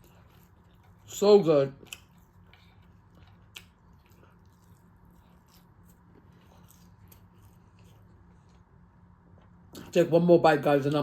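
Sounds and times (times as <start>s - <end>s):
person chewing food: 0.0s - 9.9s.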